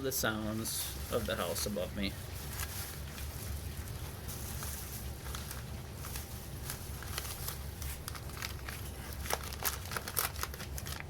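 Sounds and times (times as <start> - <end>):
packing material crinkling: 0.4 - 11.0.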